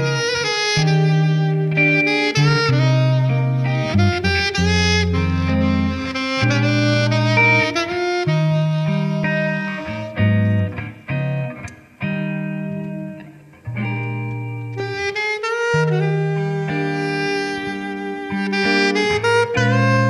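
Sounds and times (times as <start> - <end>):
low accompaniment: 0.0 - 20.0
saxophone jazz melody: 0.0 - 20.0.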